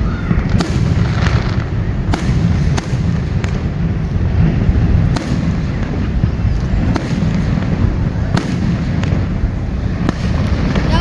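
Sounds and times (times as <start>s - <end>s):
fireworks cracks and pops: 0.0s - 11.0s
heavy low rumble: 0.0s - 11.0s.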